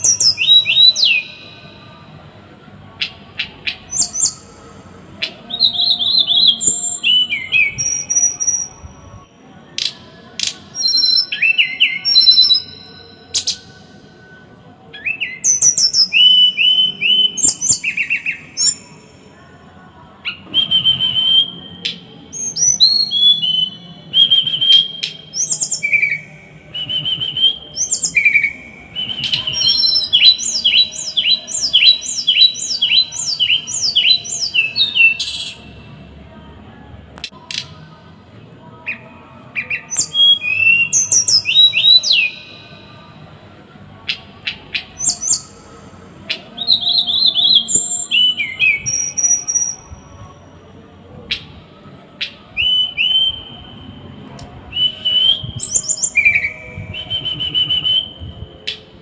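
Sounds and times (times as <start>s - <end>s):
songbird whistled song: 0.0s - 2.0s, 2.8s - 19.4s, 20.2s - 35.8s, 38.8s - 43.1s, 44.0s - 50.4s, 51.3s - 59.0s.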